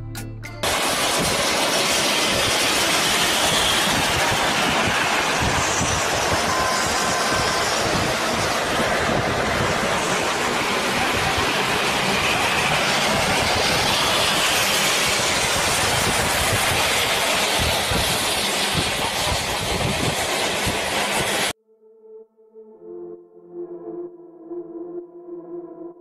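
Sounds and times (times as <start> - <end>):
vehicle wind and road roar: 0.6 - 21.5.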